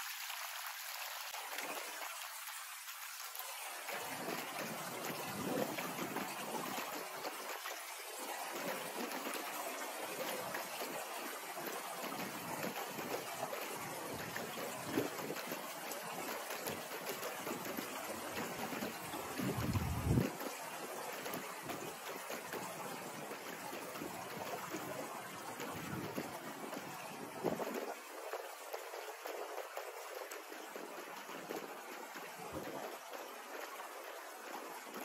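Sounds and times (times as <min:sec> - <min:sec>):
river water flowing over rocks: 0:00.0 - 0:35.0.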